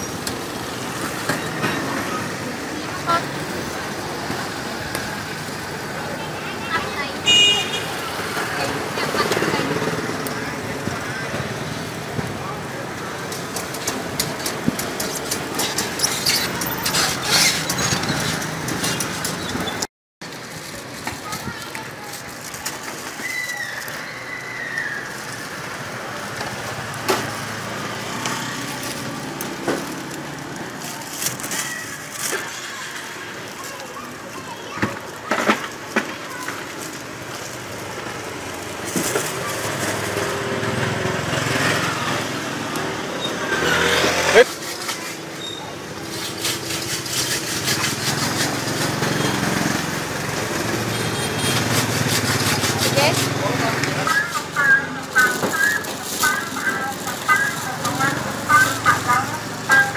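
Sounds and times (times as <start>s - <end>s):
street traffic noise: 0.0s - 59.9s.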